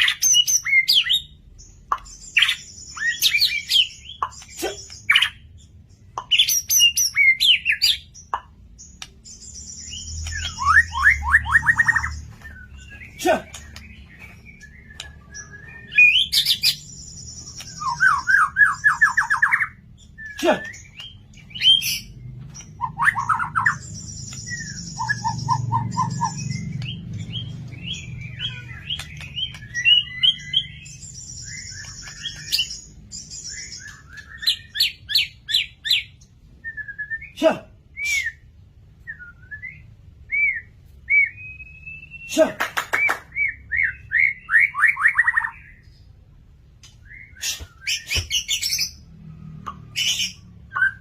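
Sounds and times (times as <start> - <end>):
songbird singing: 0.0 - 51.0.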